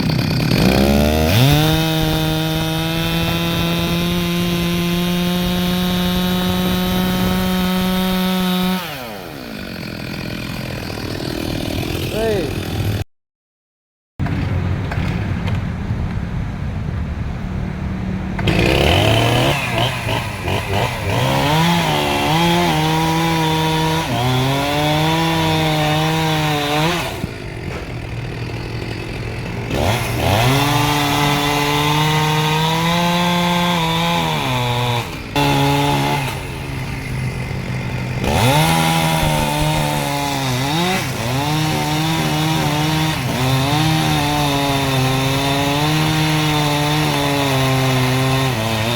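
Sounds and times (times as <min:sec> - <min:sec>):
chainsaw revving and cutting wood: 0:00.0 - 0:13.1, 0:18.3 - 0:48.9.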